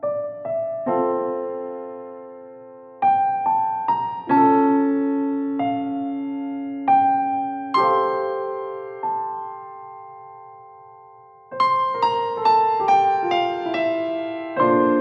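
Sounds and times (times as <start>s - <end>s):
slow piano-like keyboard music: 0.0s - 15.0s.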